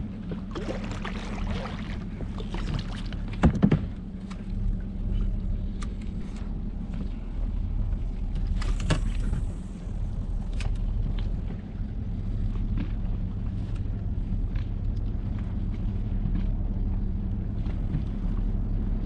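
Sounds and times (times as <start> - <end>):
steady low hum: 0.0 - 19.0
water lapping against boat: 0.0 - 19.0.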